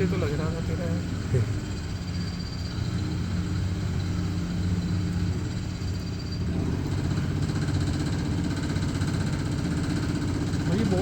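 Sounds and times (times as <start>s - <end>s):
milling machine mechanical hum: 0.0s - 11.0s.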